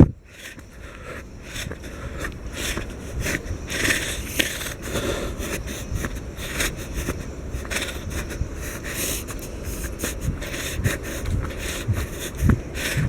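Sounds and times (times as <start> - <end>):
low microphone rumble: 0.0 - 13.0
scraping footsteps: 0.3 - 13.0.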